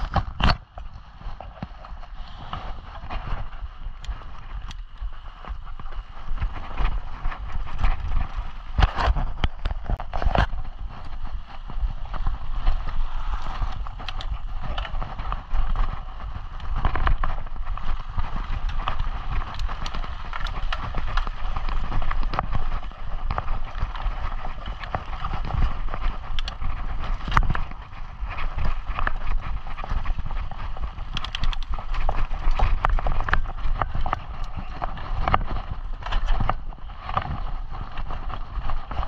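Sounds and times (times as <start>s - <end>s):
low rumble: 0.0s - 39.0s
bike chain and frame rattling: 3.0s - 39.0s.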